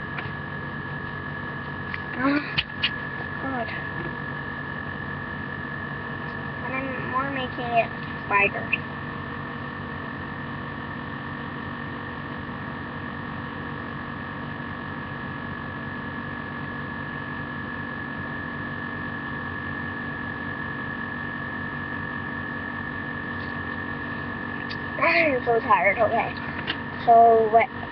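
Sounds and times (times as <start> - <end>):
electrical hum and hiss: 0.0 - 27.9
thin high whine: 0.0 - 27.9.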